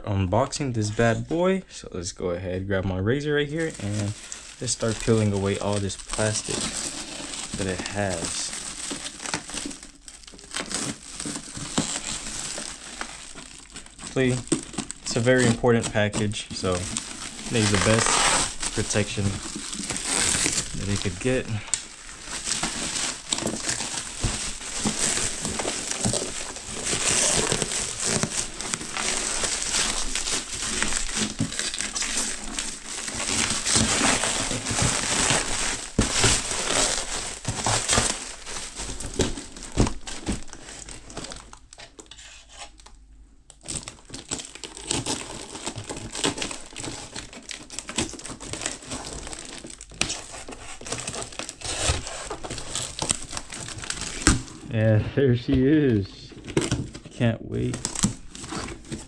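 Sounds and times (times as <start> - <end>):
plastic wrap crinkling: 3.4 - 59.0.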